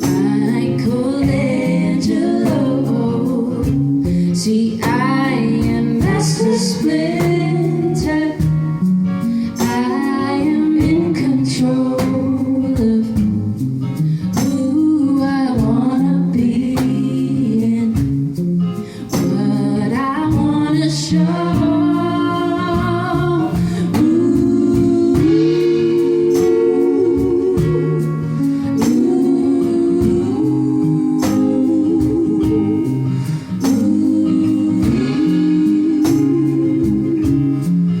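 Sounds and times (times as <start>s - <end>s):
guitar accompaniment: 0.0s - 38.0s
woman singing: 0.0s - 38.0s.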